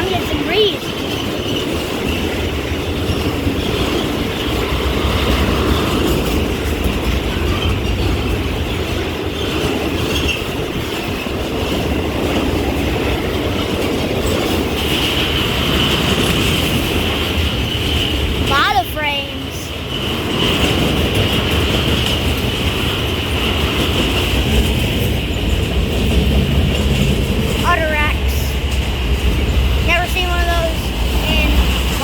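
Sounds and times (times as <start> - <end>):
freight train cars rolling on rails: 0.0 - 32.0.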